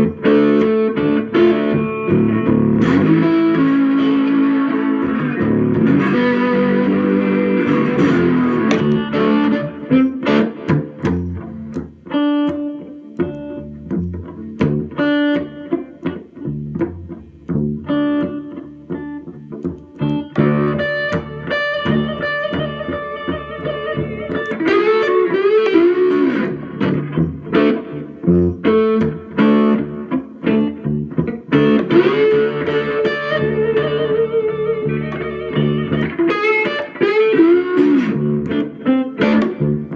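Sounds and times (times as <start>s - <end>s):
slide electric guitar: 0.0s - 39.9s.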